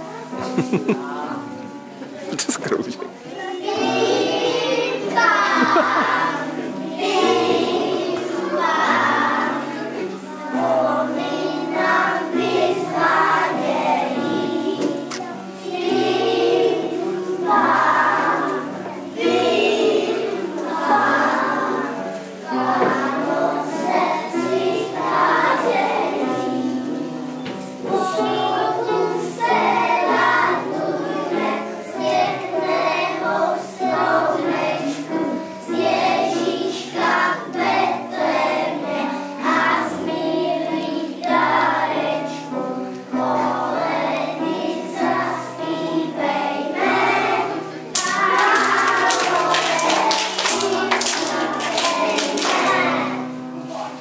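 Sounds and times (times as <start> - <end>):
instrumental accompaniment: 0.0 - 53.9
children singing: 3.2 - 54.0.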